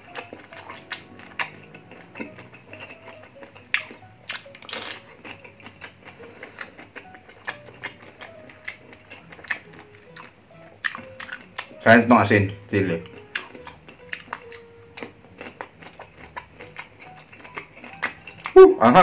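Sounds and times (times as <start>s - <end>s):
crunching and chewing: 0.0s - 19.0s
faint background music: 0.0s - 19.0s.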